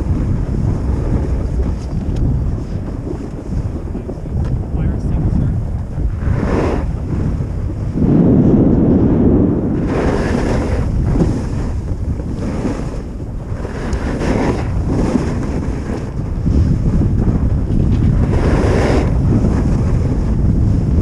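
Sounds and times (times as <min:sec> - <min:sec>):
skis scraping on snow: 0:00.0 - 0:21.0
wind over microphone: 0:00.0 - 0:21.0.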